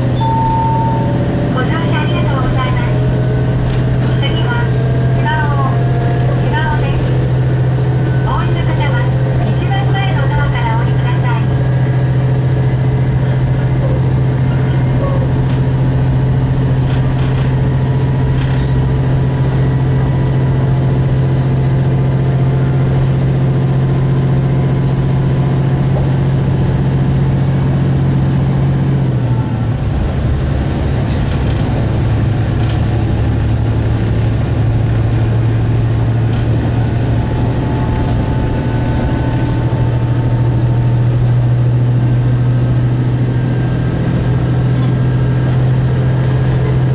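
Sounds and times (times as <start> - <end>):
diesel engine drone: 0.0 - 46.9
train track rumble: 0.0 - 46.9.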